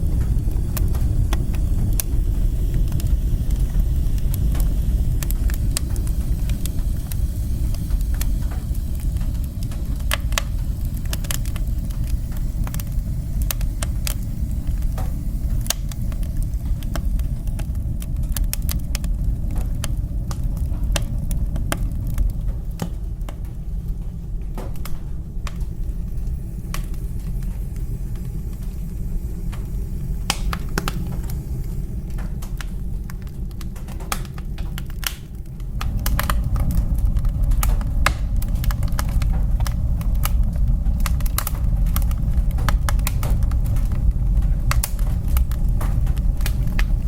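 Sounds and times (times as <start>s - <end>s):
fire crackling and popping: 0.0s - 47.0s
low rumble of flames: 0.0s - 47.0s.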